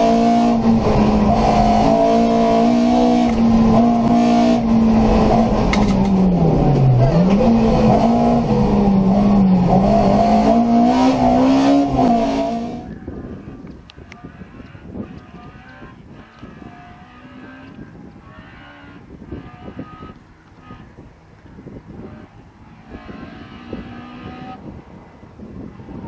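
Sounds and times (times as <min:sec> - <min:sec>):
car engine at high revs: 0:00.0 - 0:26.0.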